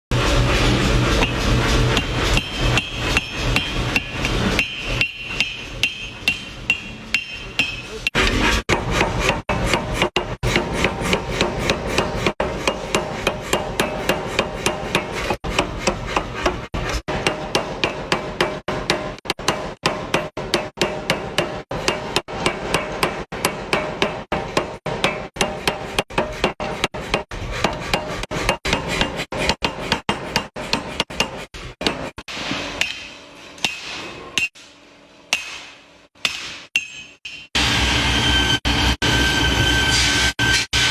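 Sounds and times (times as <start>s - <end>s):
hammer striking metal: 0.2s - 37.8s.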